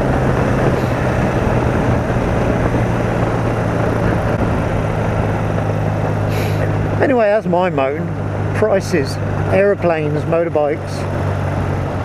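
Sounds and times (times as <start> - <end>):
wind rush on microphone: 0.0 - 9.8, 10.7 - 12.0
motorcycle engine droning: 0.0 - 12.0.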